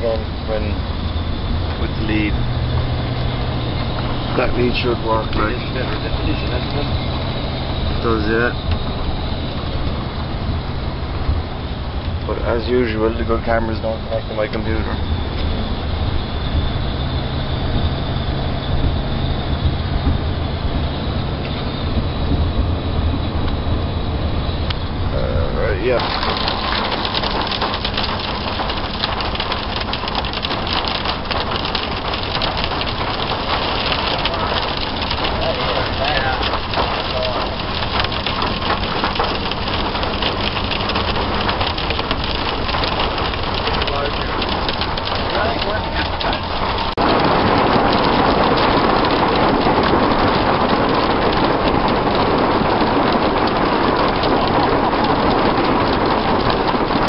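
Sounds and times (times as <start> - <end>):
hail and rain pelting vehicle roof: 0.0 - 57.0
vehicle driving rumble: 0.0 - 57.0.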